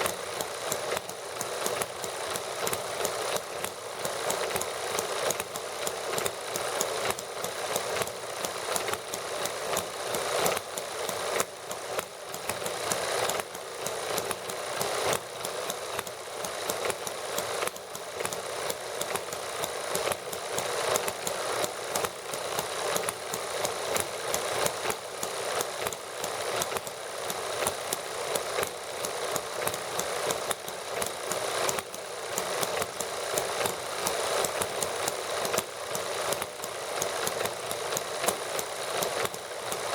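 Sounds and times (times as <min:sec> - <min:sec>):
small model engines running: 0:00.0 - 0:39.9.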